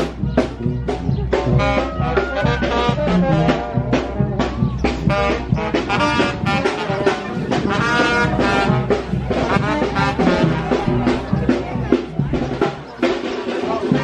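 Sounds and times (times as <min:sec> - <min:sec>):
upbeat brass horn music: 0:00.0 - 0:14.0.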